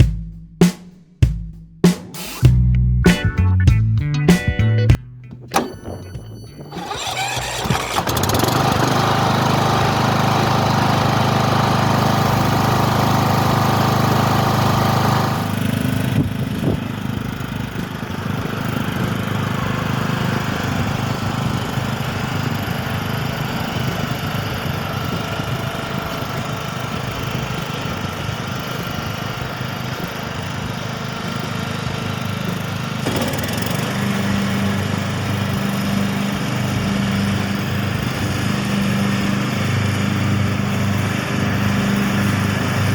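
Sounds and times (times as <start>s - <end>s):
riding mower engine running: 4.1s - 42.9s.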